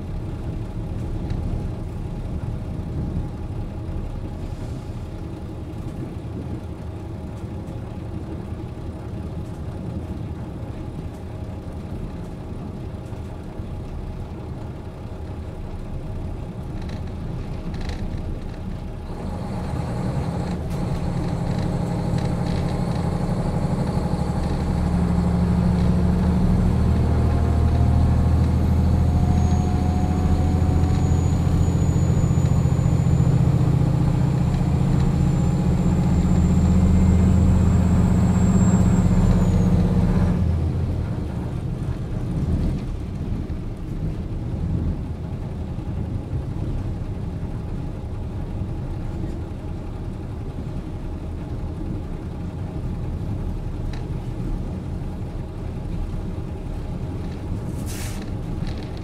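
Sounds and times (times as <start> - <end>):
diesel railcar engine idling: 0.0 - 59.0.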